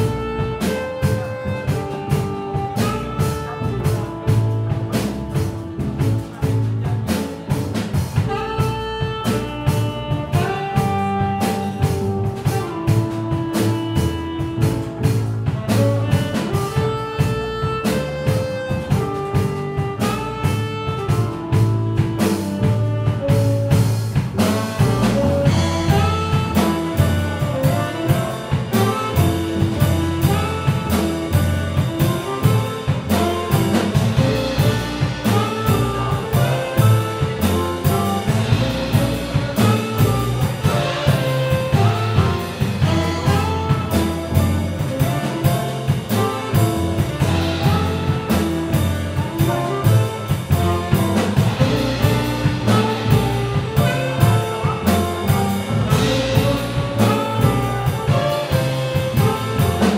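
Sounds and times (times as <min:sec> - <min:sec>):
double bass notes: 0:00.0 - 0:59.9
drum kit hits: 0:00.0 - 0:59.9
piano: 0:00.0 - 0:59.9
tenor saxophone melody: 0:00.0 - 0:59.9.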